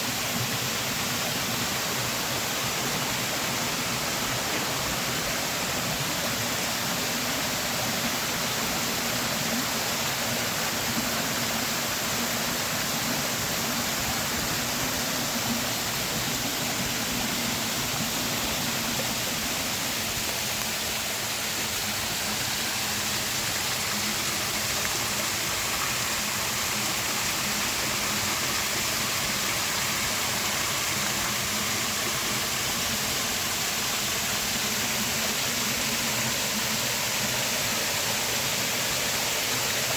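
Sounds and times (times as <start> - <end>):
creek water rushing down cascades: 0.0 - 39.9.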